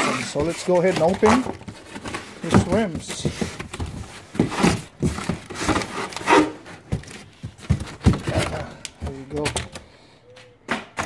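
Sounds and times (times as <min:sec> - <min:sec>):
cardboard scraping and rustling: 0:00.0 - 0:09.8.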